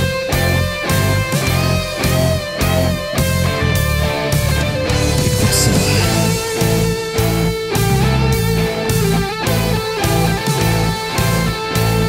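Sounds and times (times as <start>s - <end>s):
chugging low guitar rhythm: 0.0s - 12.0s
distorted electric guitar lead: 0.0s - 12.0s.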